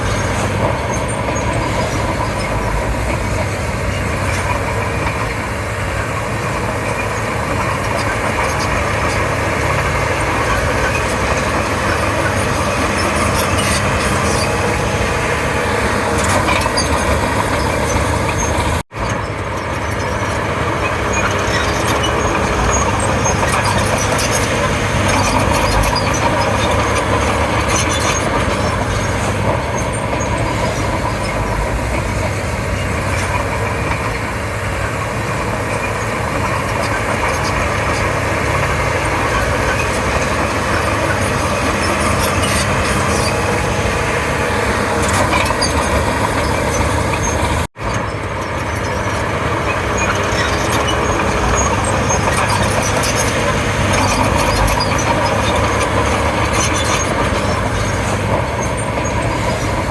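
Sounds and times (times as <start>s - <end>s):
bulldozer diesel engine: 0.0s - 59.9s
tracks and blade clanking: 0.0s - 59.9s.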